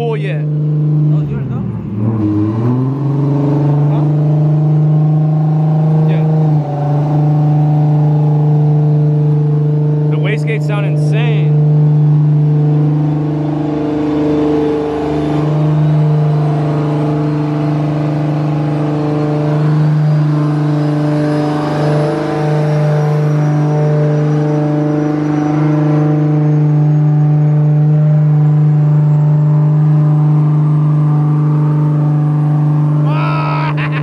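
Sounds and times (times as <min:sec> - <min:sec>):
engine running at raised rpm: 0:00.0 - 0:34.0.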